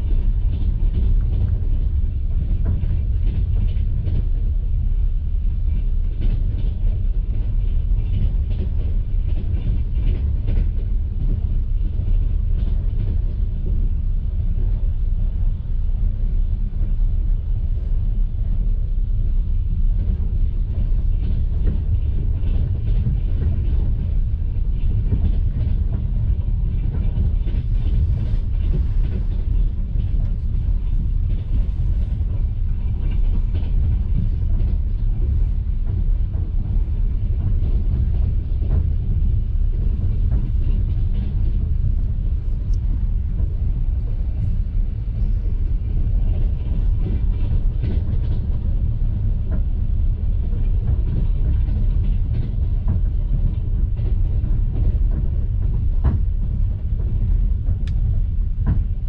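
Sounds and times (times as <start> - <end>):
railway carriage rumbling: 0.0 - 59.0.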